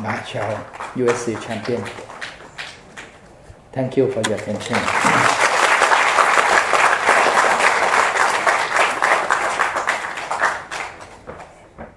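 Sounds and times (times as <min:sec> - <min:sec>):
audience applauding: 0:00.0 - 0:03.2, 0:04.4 - 0:11.5.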